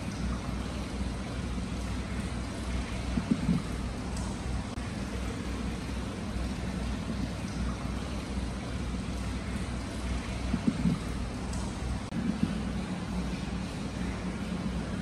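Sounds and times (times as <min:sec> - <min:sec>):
water pouring into a stone basin: 0:00.0 - 0:15.0.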